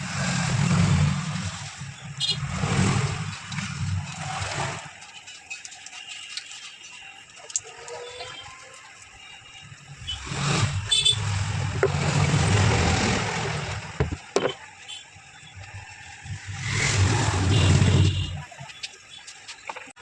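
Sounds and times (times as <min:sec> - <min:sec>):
vehicles passing by: 0:00.0 - 0:06.0, 0:07.2 - 0:19.9.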